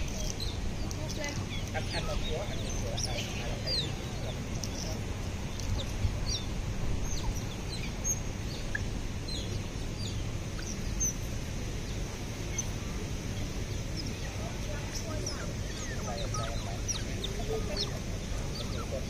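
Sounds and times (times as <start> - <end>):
low city hum: 0.0 - 19.0.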